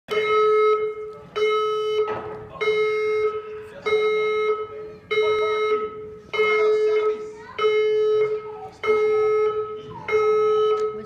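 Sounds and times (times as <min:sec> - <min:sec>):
fire alarm pulsing tone: 0:00.1 - 0:11.0.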